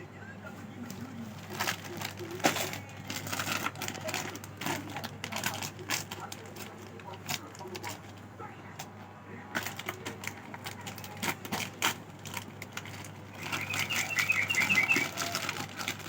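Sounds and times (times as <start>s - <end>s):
plastic snack packet crinkling: 0.5s - 16.0s.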